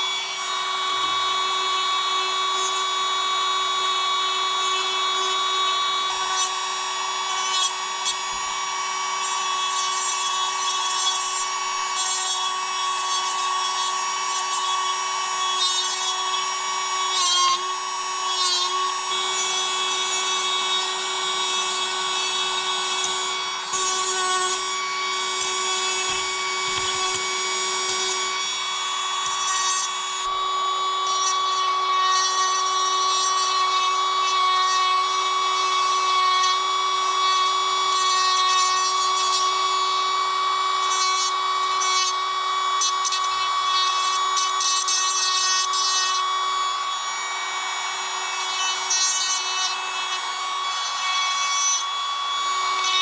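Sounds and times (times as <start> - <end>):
electric power tool whining: 0.0 - 53.0.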